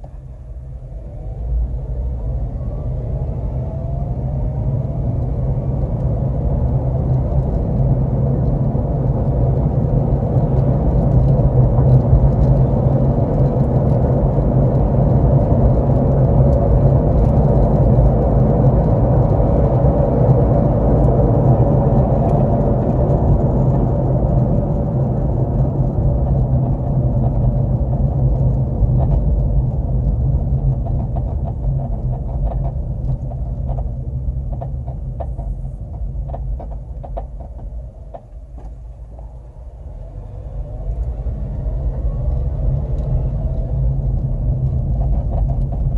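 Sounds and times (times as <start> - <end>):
car road and engine rumble: 0.0 - 45.9.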